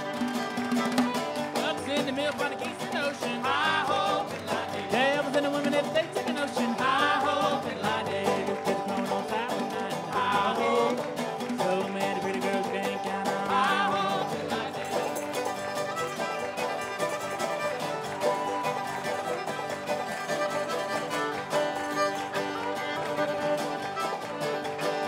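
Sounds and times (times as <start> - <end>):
fiddle: 0.0 - 25.0
plucked banjo: 0.0 - 25.0
quick clicking beat: 0.0 - 25.0.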